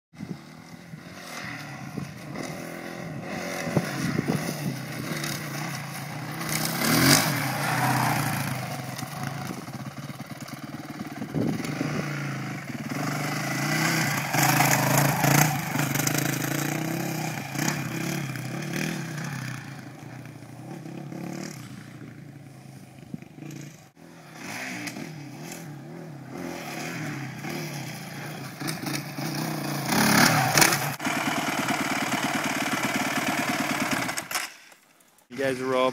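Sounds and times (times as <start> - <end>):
dirt bike engine revving: 0.7 - 22.3, 23.3 - 34.4.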